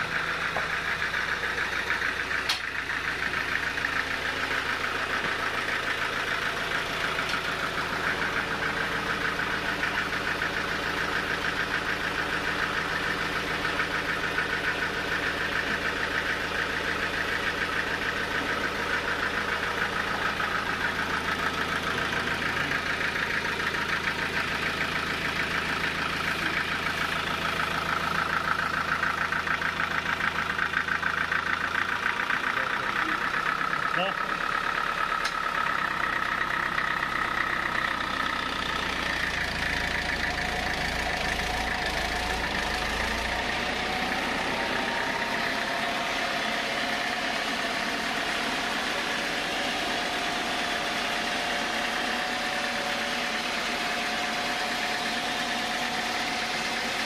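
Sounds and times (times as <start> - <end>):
diesel engine clattering: 0.0 - 57.0.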